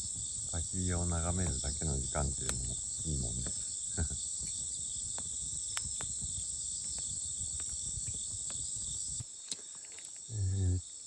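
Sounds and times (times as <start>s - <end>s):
campfire crackling and popping: 0.0s - 10.3s
insects chirring: 0.0s - 11.0s.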